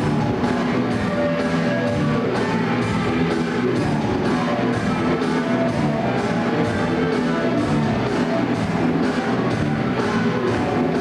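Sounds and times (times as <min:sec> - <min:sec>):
drum kit beat: 0:00.0 - 0:11.0
electric guitar: 0:00.0 - 0:11.0.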